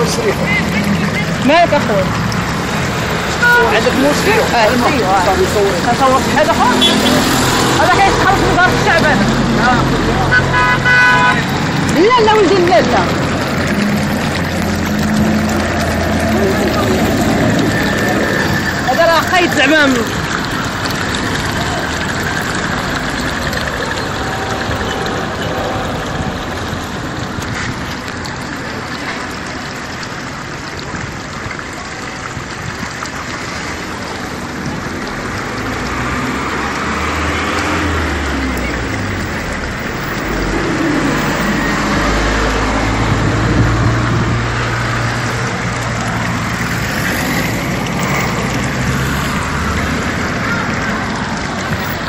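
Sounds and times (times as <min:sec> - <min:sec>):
water splashing onto ground: 0:00.0 - 0:52.0.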